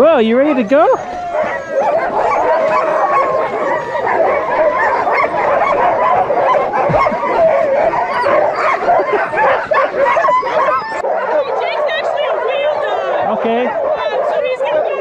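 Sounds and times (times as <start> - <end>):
dogs barking and yipping: 0.0 - 15.0
dogs wavering cries: 0.0 - 15.0.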